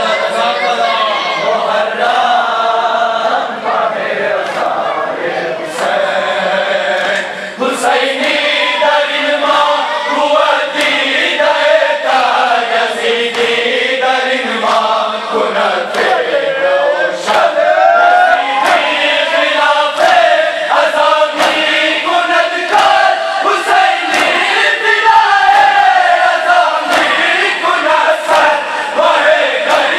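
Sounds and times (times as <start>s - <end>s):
group of men chanting: 0.0s - 29.9s.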